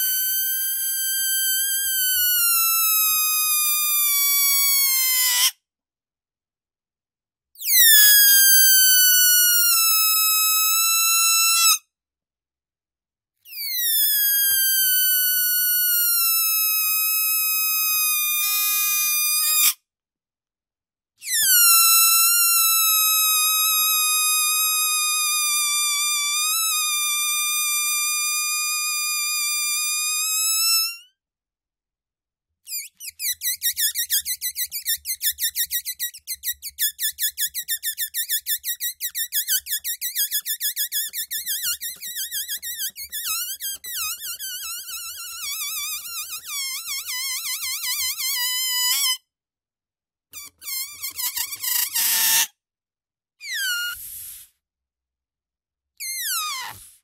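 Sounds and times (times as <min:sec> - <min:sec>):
deflating balloon whistling: 0:00.0 - 0:05.6, 0:07.6 - 0:11.8, 0:13.5 - 0:19.8, 0:21.2 - 0:31.1, 0:32.7 - 0:49.3, 0:50.4 - 0:52.5, 0:53.4 - 0:54.6, 0:56.0 - 0:57.0.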